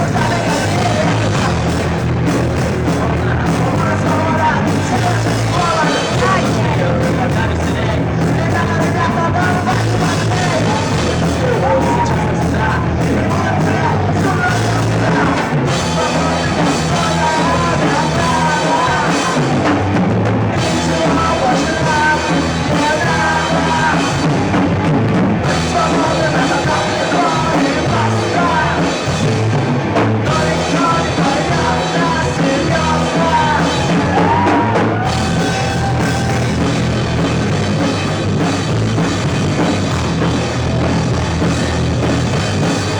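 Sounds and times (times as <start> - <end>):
rock band playing live: 0.0 - 42.9.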